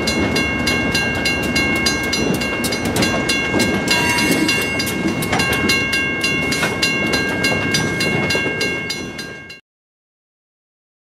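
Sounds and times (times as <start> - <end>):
freight train cars rolling: 0.0 - 9.6
wheels clicking over rail joints: 0.0 - 9.6.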